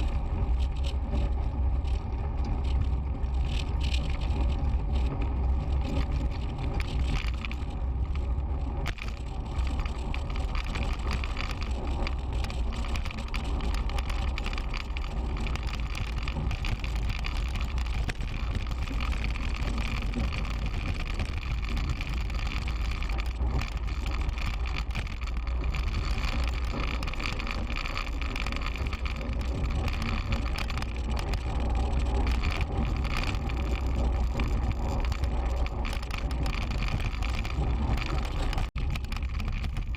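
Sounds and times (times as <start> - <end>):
bicycle tyre and road noise: 0.0 - 39.9
small ticks and rattles: 0.0 - 39.9
wind rumble: 0.0 - 39.9.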